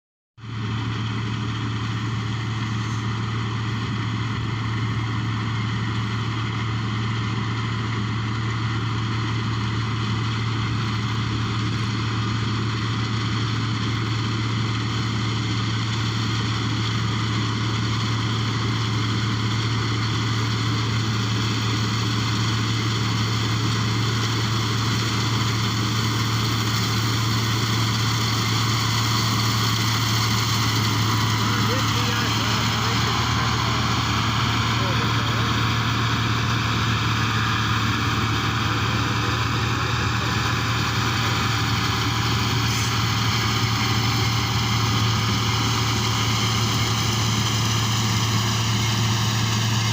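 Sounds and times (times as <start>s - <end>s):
combine harvester engine humming: 0.4s - 49.9s.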